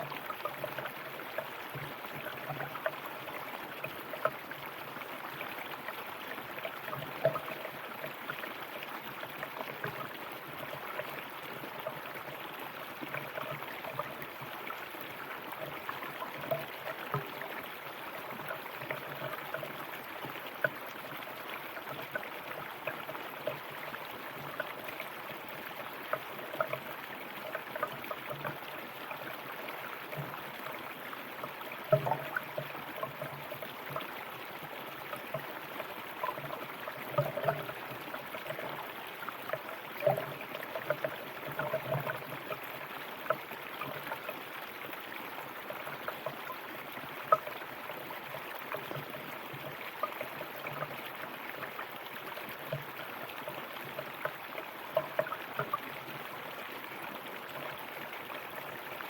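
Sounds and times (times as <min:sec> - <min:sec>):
river water running over stones: 0:00.0 - 0:59.0
water splashing and gurgling: 0:00.0 - 0:59.0.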